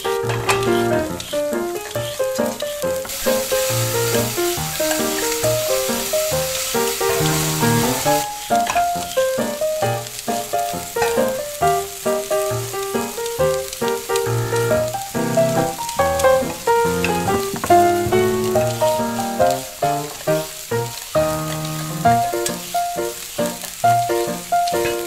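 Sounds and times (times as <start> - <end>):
hot oil sizzling: 0.0 - 25.0.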